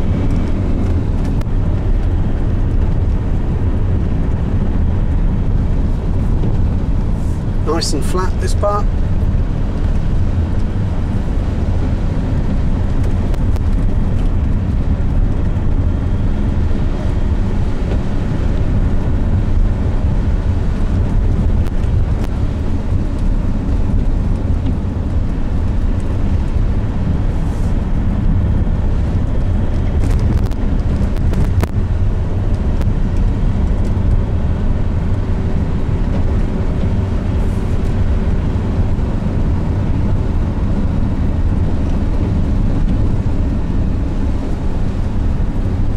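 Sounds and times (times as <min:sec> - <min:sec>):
car engine and road noise: 0:00.0 - 0:45.9
wind noise: 0:00.0 - 0:45.9.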